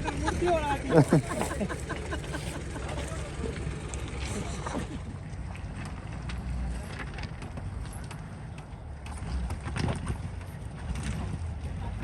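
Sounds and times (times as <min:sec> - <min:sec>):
vehicle engine low rumble: 0:00.0 - 0:12.0
vehicle knocks and rattles: 0:00.0 - 0:12.0.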